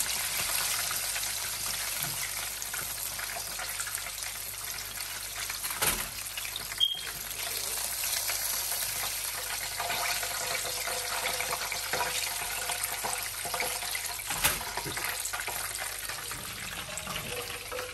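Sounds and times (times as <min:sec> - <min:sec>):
oil sizzling and crackling: 0:00.0 - 0:17.9.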